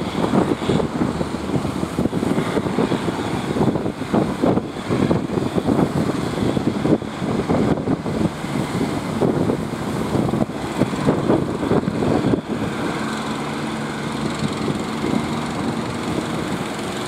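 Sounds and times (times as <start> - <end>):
boat engine running roughly: 0.0 - 17.0.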